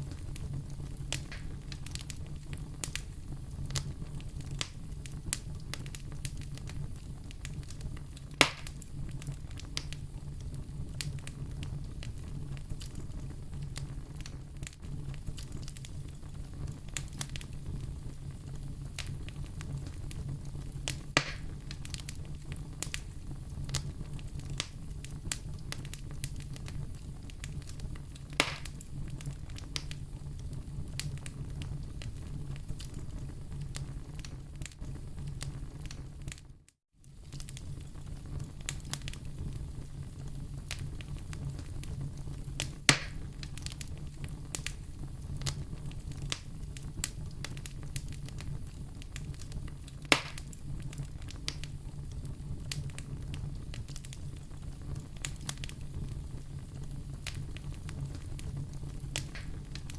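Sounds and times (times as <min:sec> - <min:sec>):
fire crackling snaps: 0:00.0 - 0:59.9
loud fire pops: 0:00.0 - 0:59.9
low rumble of flames: 0:00.0 - 0:59.9.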